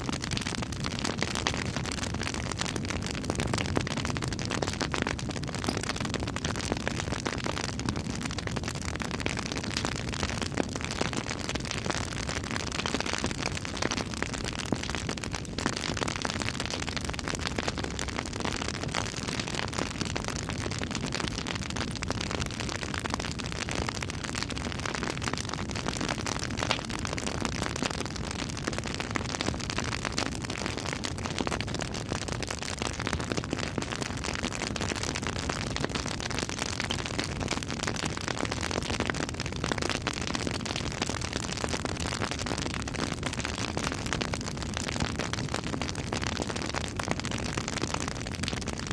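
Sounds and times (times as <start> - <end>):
campfire wood crackling: 0.0 - 48.9
fire popping: 0.0 - 48.9.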